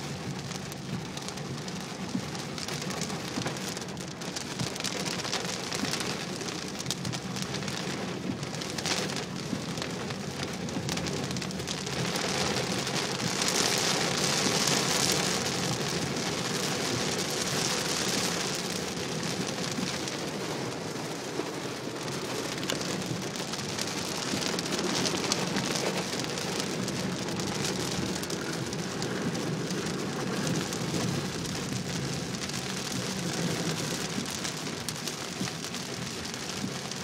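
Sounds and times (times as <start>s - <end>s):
heavy rain on car roof: 0.0s - 37.0s.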